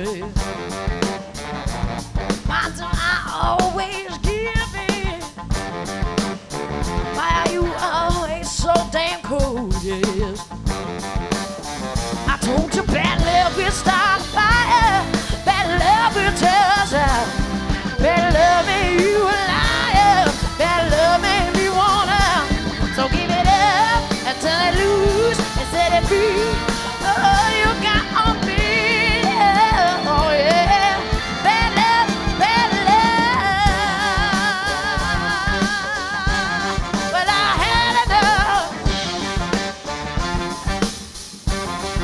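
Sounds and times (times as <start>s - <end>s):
woman singing lead: 0.0s - 1.1s, 2.3s - 6.3s, 6.9s - 10.6s, 12.2s - 39.3s
saxophone and trumpet horn section: 0.0s - 8.8s, 9.7s - 42.0s
bass guitar: 0.0s - 42.0s
drum kit: 0.0s - 42.0s
electric guitar: 0.0s - 42.0s.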